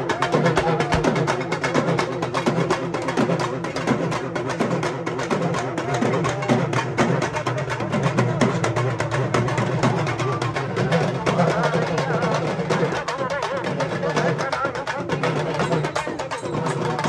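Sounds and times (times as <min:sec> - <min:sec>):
fast drum strokes: 0:00.0 - 0:17.0.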